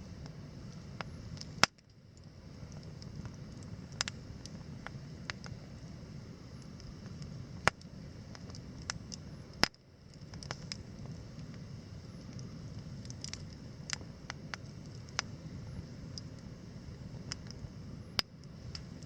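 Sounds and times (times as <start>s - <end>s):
campfire crackling: 0.0s - 19.0s
fire pops and snaps: 0.2s - 19.0s.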